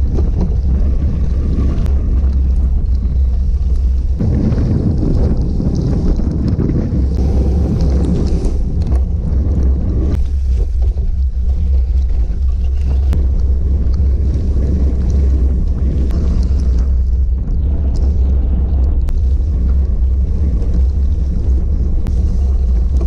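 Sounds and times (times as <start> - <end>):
bike tyres on wet ground: 0.0 - 23.0
wind buffeting microphone: 0.0 - 23.0.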